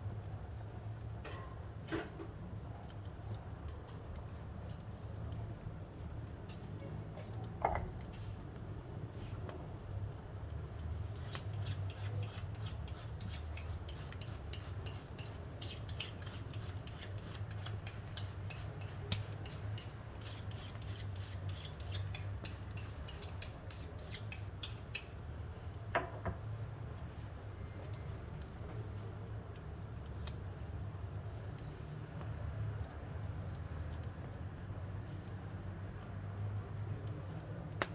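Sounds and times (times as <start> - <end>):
wood fire crackling in stove: 0.0 - 37.9.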